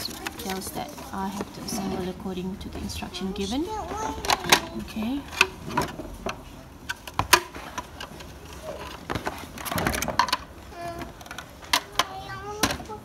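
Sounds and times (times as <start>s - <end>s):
plastic panels clacking: 0.0s - 2.1s, 3.8s - 13.0s
cardboard rustling and scraping: 0.0s - 2.9s, 3.7s - 11.7s.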